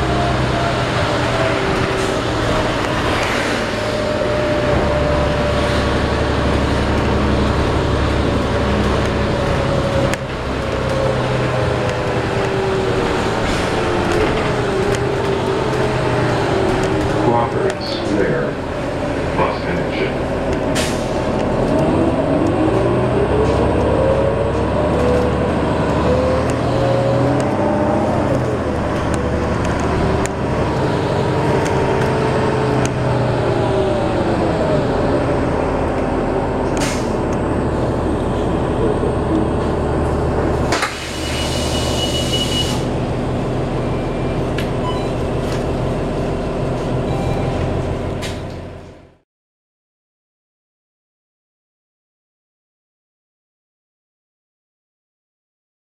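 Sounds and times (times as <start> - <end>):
bus engine with rising whine: 0.0 - 49.2.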